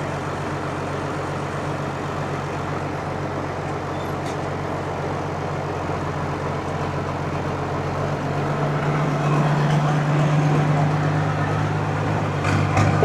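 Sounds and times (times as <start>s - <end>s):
farm machine engine running: 0.0s - 13.0s.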